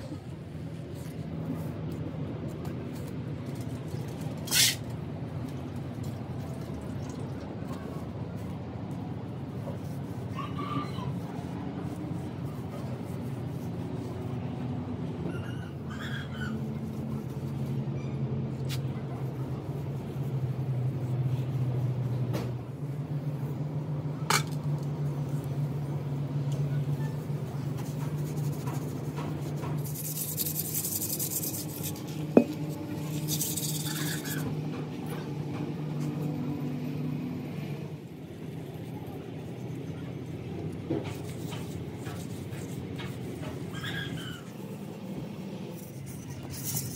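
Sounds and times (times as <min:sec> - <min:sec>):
low mechanical hum: 0:00.0 - 0:46.9.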